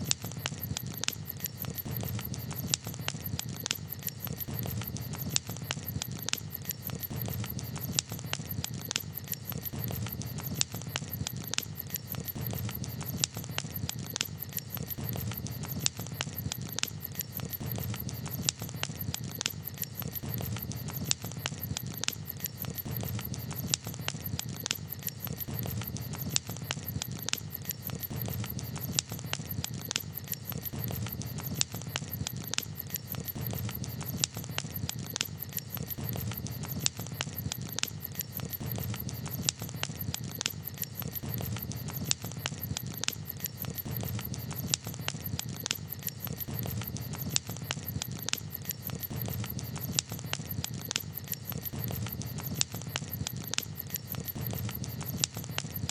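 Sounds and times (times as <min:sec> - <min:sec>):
campfire popping and snapping: 0:00.0 - 0:55.9
low rumble of fire: 0:00.0 - 0:55.9.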